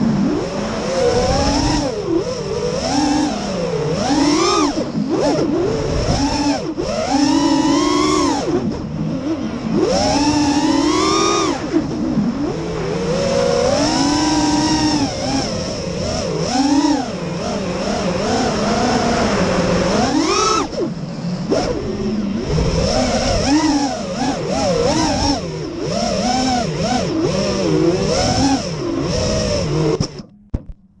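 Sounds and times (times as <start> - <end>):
quadcopter motors whining: 0.0 - 30.3.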